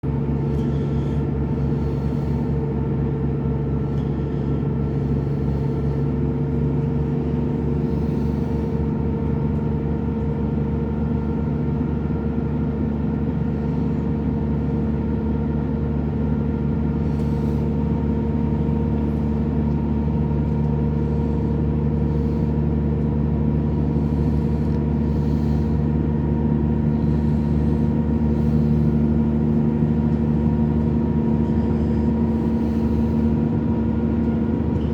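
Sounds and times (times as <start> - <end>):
diesel train engine drone: 0.0 - 34.9.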